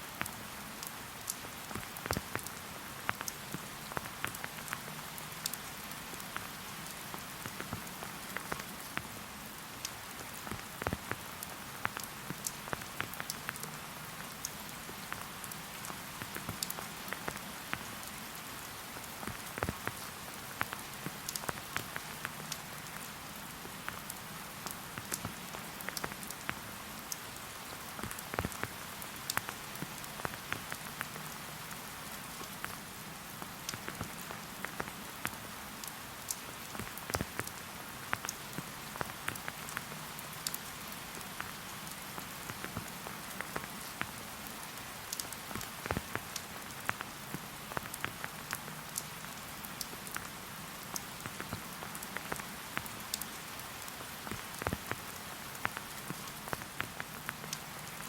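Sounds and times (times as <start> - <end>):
rain hissing: 0.1 - 58.0
raindrops ticking: 0.1 - 58.0.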